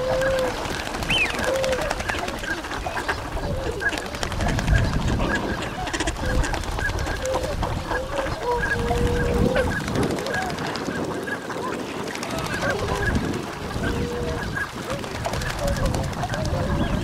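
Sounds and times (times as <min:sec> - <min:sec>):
swans and ducks calling: 0:00.0 - 0:17.0.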